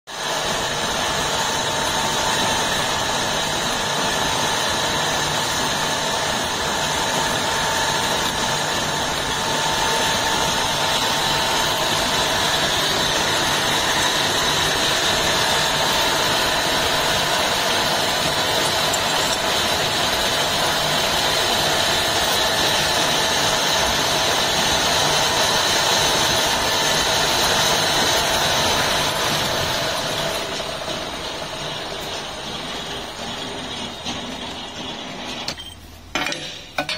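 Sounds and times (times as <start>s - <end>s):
pillar drill cutting metal: 0.2s - 30.3s.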